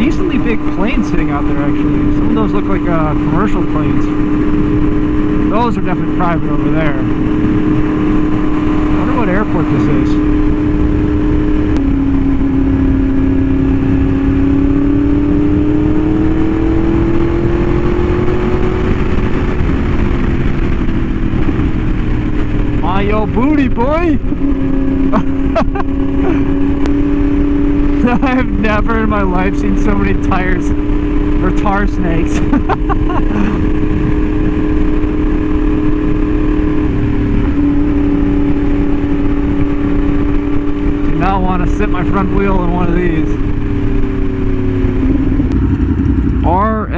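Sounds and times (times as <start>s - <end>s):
motorcycle engine revving: 0.0s - 46.9s
wind rush on microphone: 0.0s - 46.9s.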